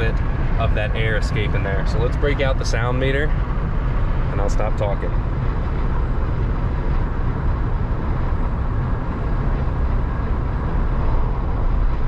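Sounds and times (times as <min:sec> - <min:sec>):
car engine: 0:00.0 - 0:12.0
tyre road and wind rumble: 0:00.0 - 0:12.0.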